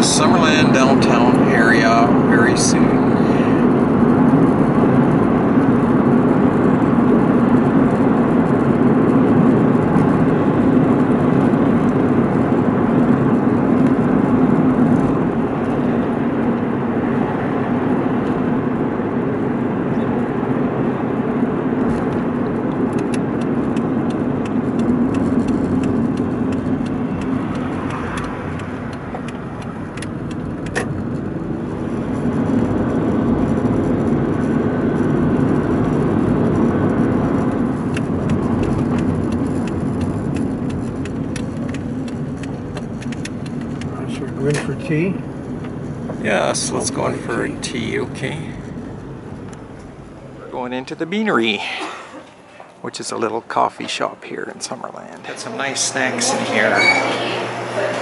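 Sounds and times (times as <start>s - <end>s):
engine and road noise rumble: 0.0s - 58.0s.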